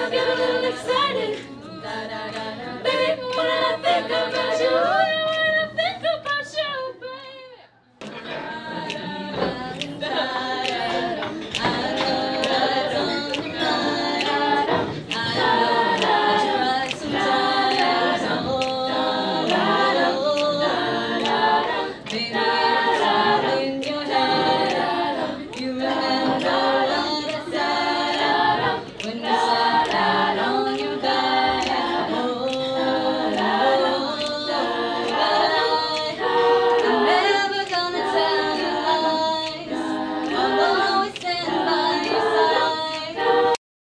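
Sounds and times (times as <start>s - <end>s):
girls singing in harmony: 0.0s - 43.6s.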